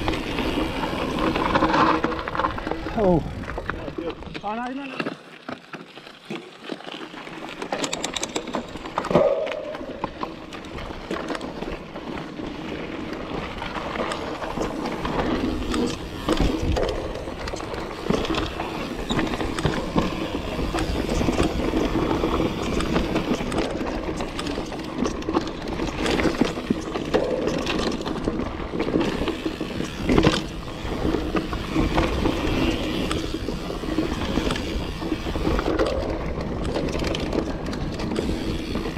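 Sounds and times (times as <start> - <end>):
bike rattling: 0.0 - 38.9
bike tyres rolling on dirt: 0.0 - 38.9.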